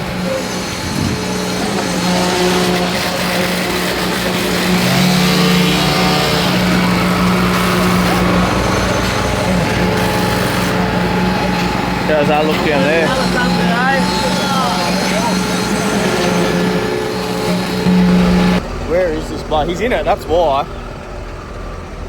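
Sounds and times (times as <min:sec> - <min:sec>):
heavy truck engine running: 0:00.0 - 0:22.0
lower engine tone: 0:00.0 - 0:22.0.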